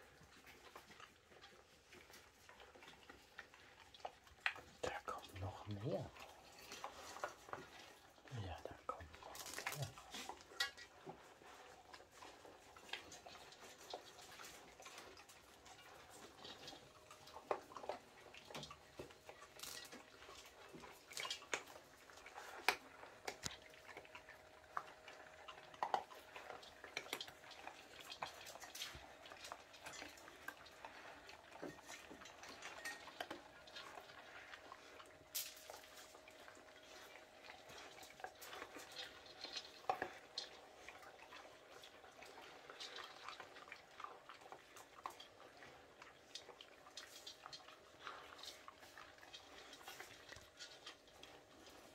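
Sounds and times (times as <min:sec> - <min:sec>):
animals crunching dry kibble: 0:00.0 - 0:51.9.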